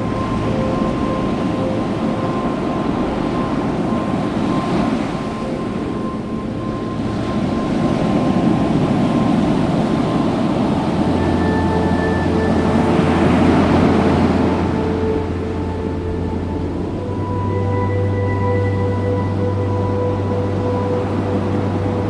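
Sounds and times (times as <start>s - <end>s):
faint held tones: 0.0s - 22.0s
surf on a beach: 0.0s - 22.0s
wind: 0.0s - 22.0s.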